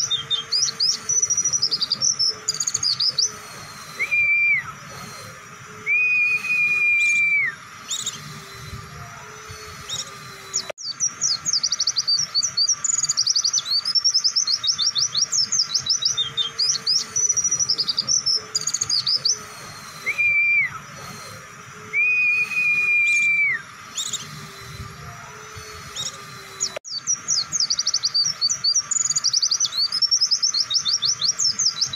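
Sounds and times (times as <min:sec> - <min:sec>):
bird drawn-out whistles: 0:00.0 - 0:31.9
bird twittering: 0:00.0 - 0:31.9.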